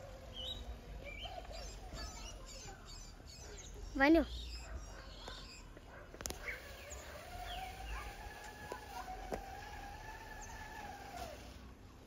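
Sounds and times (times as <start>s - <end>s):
distant vehicle engine hum: 0.0s - 12.0s.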